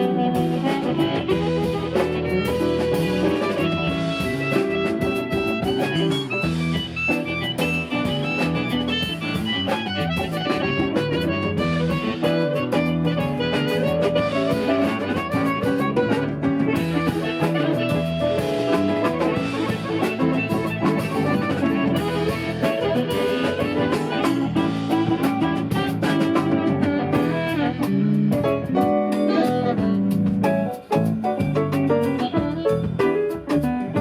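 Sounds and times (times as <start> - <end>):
drum kit steady beat: 0.0 - 34.0
electric guitar playing: 0.0 - 34.0.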